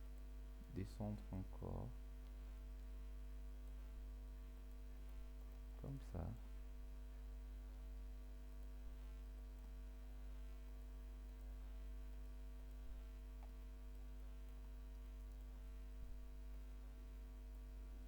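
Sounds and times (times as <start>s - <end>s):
electrical mains hum: 0.0s - 18.0s
faint clicks: 2.1s - 18.0s.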